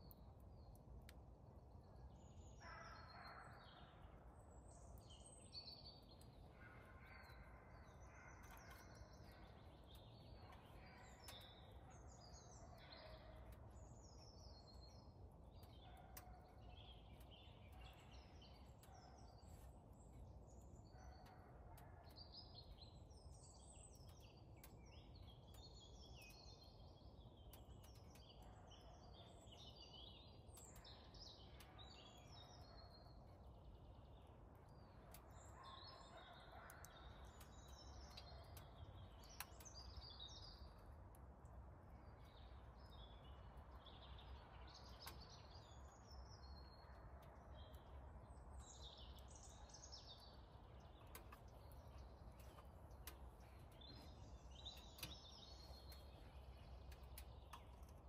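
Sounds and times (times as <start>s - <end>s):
birds chirping and warbling: 1.7s - 58.0s
faint clicks: 6.1s - 13.9s, 15.5s - 26.6s, 27.4s - 43.8s, 44.6s - 58.0s.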